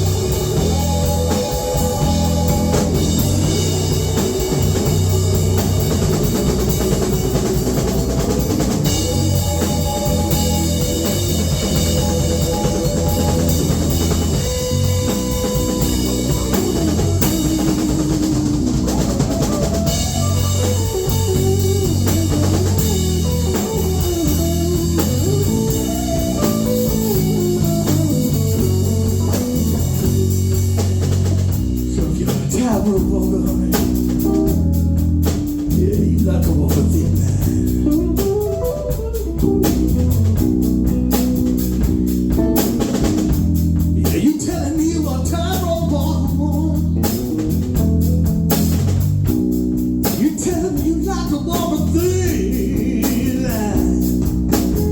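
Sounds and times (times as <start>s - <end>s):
drum kit beat: 0.0s - 54.9s
guitar with bent notes: 0.0s - 54.9s.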